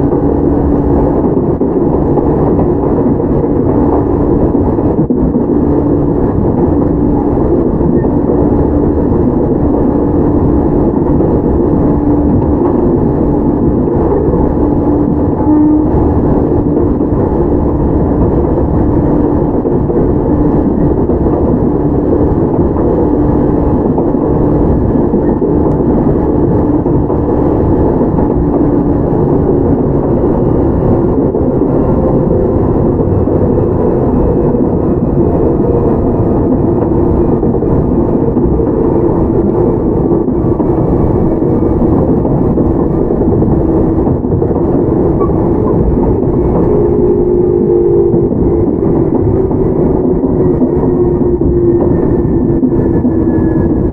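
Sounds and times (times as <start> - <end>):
train motor and gear hum: 0.0 - 53.9
wheel and rail noise: 0.0 - 53.9.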